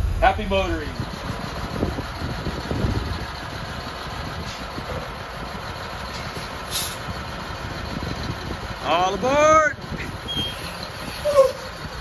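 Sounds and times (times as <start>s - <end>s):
diesel bus engine idling: 0.0s - 12.0s.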